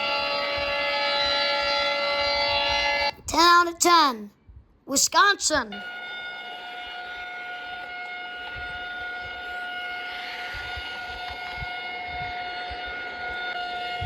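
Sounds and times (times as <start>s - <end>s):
steady siren-like alarm tone: 0.0s - 3.2s, 5.7s - 14.0s.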